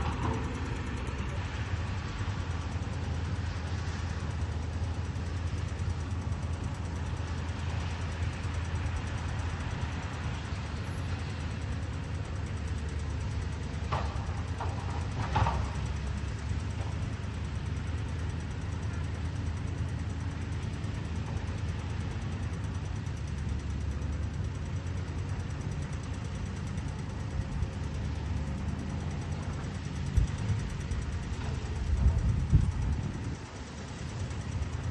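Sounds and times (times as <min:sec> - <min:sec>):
excavator diesel engine droning: 0:00.0 - 0:34.9.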